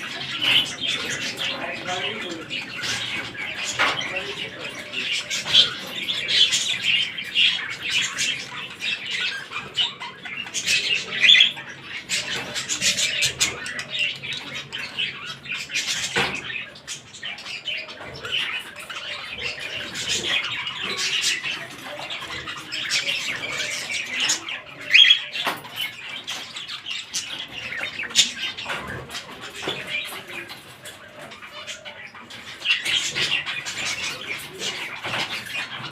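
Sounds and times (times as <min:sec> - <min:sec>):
cockatiels chirping and calling: 0:00.0 - 0:35.9.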